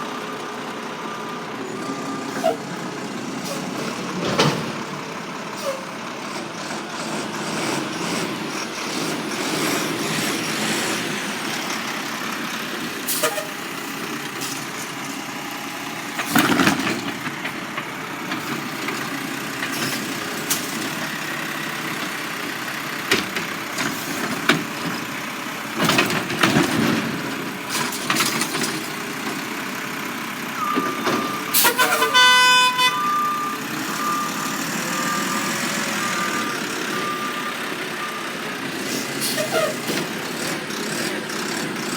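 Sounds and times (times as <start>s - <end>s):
garbage truck engine running: 0.0s - 41.9s.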